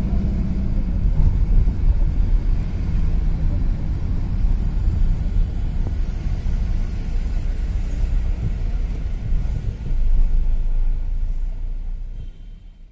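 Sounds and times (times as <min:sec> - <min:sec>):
car engine and tyres rumble: 0:00.0 - 0:12.9.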